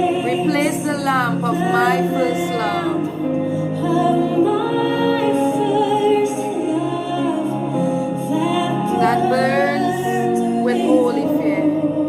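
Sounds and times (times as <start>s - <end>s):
slow worship singing with music: 0.0s - 12.0s.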